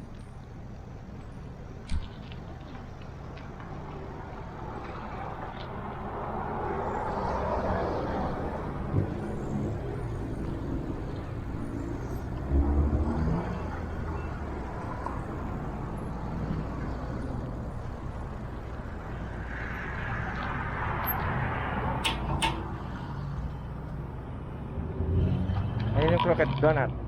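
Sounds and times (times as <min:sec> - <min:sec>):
highway traffic rumble: 0:00.0 - 0:27.0
passing vehicle engine rumble: 0:00.0 - 0:27.0.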